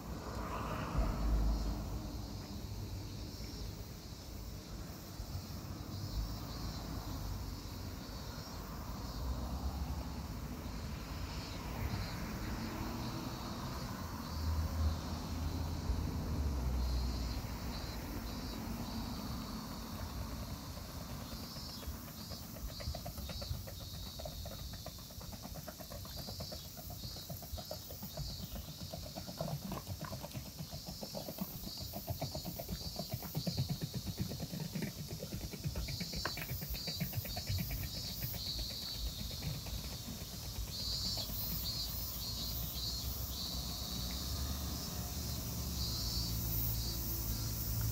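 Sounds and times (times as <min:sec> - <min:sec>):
cicadas singing: 0:00.0 - 0:47.9.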